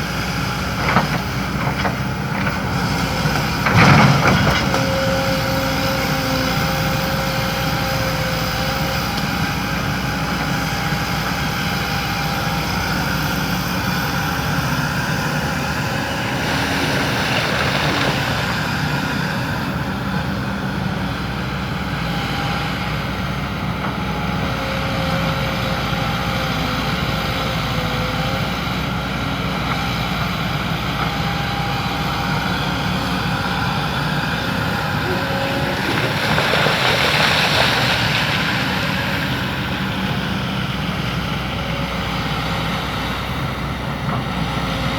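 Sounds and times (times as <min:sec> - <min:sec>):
excavator diesel engine: 0:00.0 - 0:44.9.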